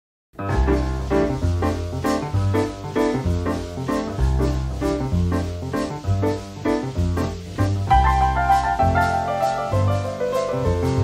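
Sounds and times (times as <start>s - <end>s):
music with steady beat: 0.4s - 11.0s.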